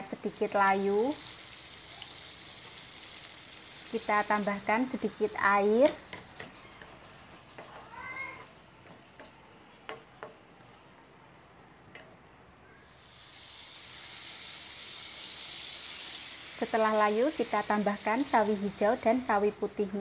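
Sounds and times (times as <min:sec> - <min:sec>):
vegetables sizzling in a wok: 0:00.0 - 0:20.0.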